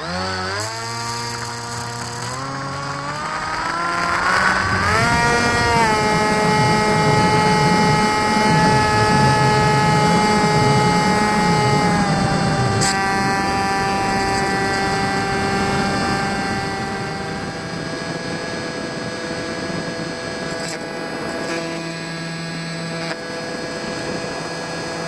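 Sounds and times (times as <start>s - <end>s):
electric motor and propeller whining: 0.0s - 25.0s
wind rush on microphone: 1.1s - 25.0s.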